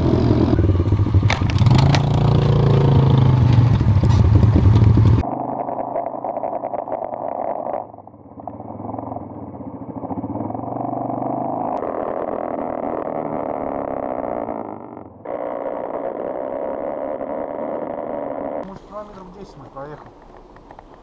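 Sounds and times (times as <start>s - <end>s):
muffled quad engine revving: 0.0s - 18.8s.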